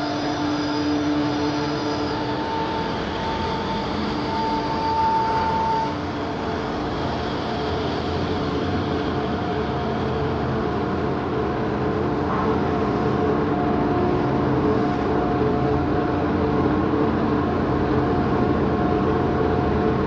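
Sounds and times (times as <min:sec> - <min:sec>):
cnc router running: 0:00.0 - 0:20.0
high-pitched machine whine: 0:00.0 - 0:20.0.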